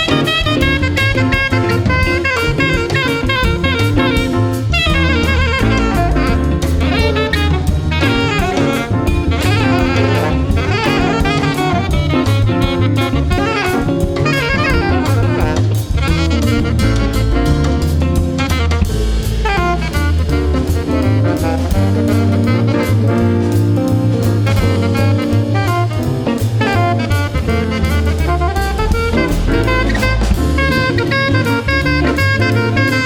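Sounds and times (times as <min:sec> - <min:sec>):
jazz ensemble playing: 0:00.0 - 0:33.0
saxophone melodic runs: 0:00.0 - 0:33.0.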